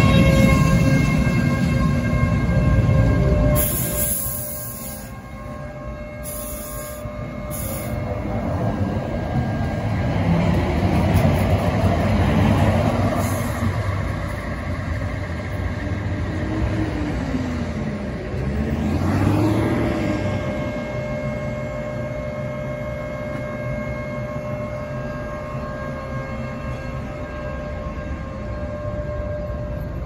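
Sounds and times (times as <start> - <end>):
tram rolling along track: 0.0 - 30.0.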